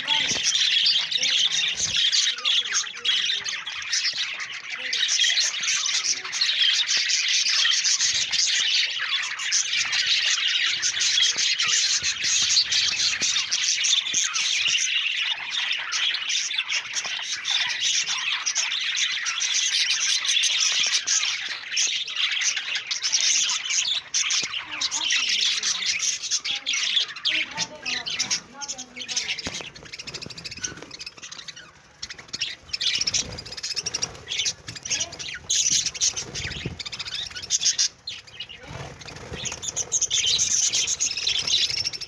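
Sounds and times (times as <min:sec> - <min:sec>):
budgerigars chirping and warbling: 0:00.0 - 0:42.0.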